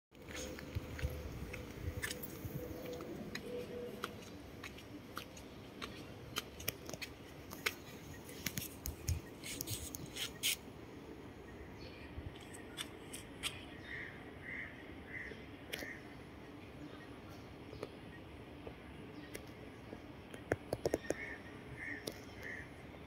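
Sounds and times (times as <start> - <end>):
faint steady background noise: 0.2 - 23.0.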